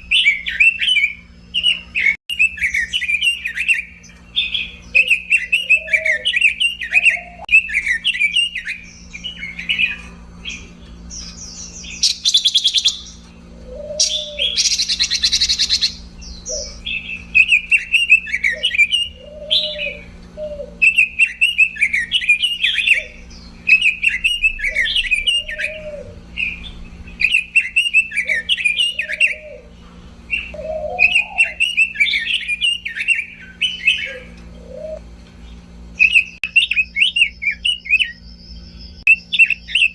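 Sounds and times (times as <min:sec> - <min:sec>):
bird warbling song: 0:00.0 - 0:39.9
harsh buzzy rattling calls: 0:00.0 - 0:39.9.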